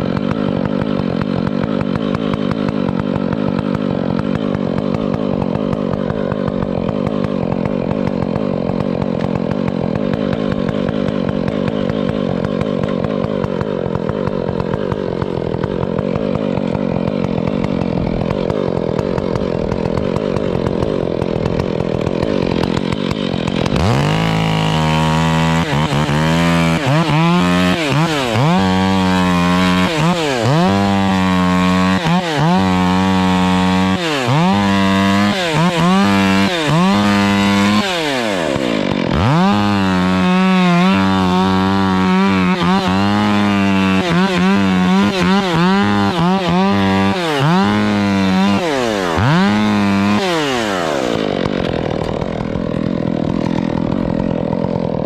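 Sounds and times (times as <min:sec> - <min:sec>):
chainsaw running at high revs: 0:00.0 - 0:55.0.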